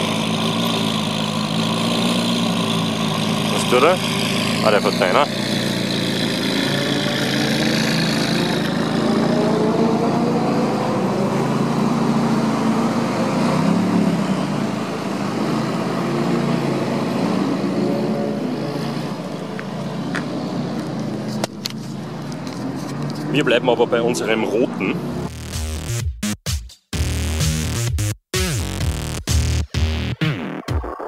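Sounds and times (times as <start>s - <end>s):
car engine driving off: 0.0s - 25.8s.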